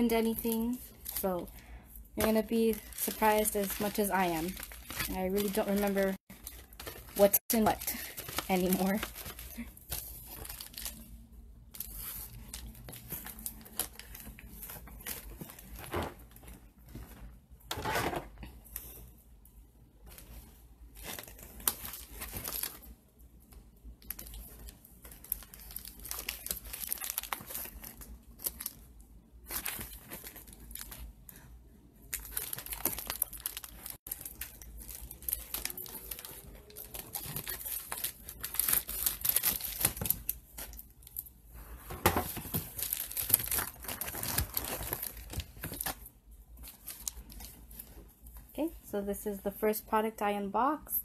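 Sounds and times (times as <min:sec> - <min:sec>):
plastic packaging crinkling and tearing: 0:00.0 - 0:17.2, 0:20.1 - 0:23.0, 0:23.9 - 0:41.2, 0:42.2 - 0:48.1.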